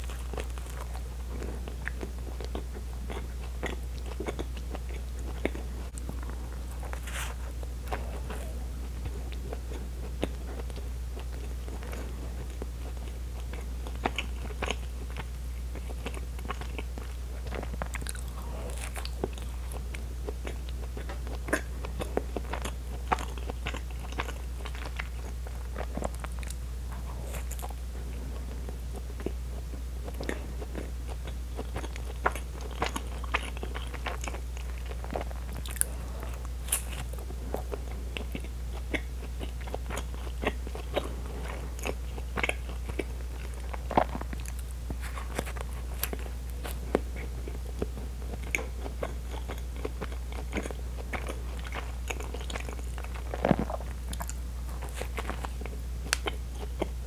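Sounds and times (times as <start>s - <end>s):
chewing soft bread: 0.0s - 57.0s
steady low hum: 0.0s - 57.0s.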